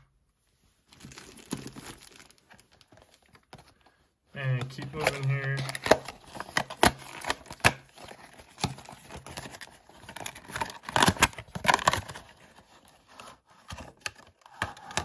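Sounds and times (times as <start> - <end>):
crinkling plastic and cardboard: 0.5 - 15.0.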